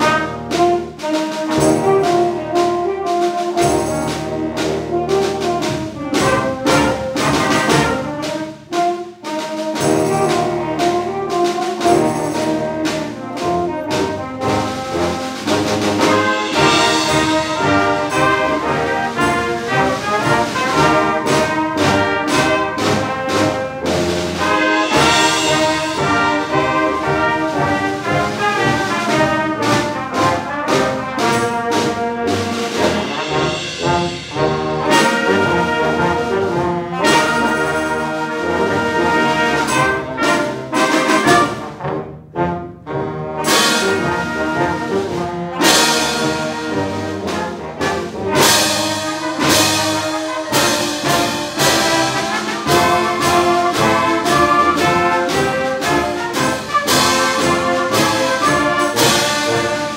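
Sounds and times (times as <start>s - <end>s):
percussion strokes: 0.0s - 41.9s, 43.4s - 59.9s
concert band playing: 0.0s - 59.9s.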